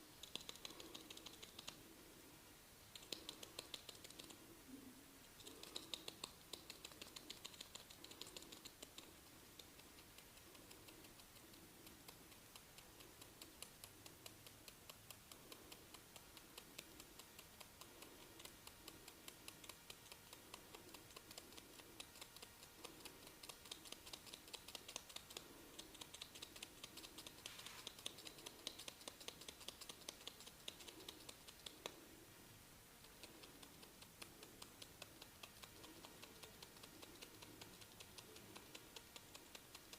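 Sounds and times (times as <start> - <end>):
fingers clicking through hair: 0.0 - 1.9, 2.9 - 4.5, 5.3 - 32.2, 33.0 - 39.9.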